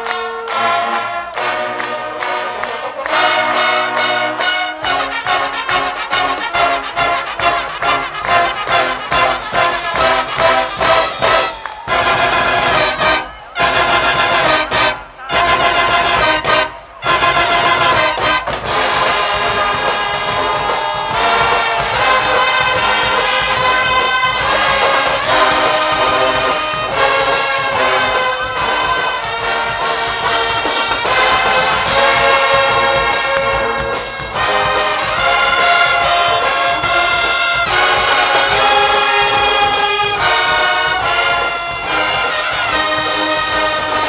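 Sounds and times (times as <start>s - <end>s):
brass band playing loudly: 0.0s - 44.0s.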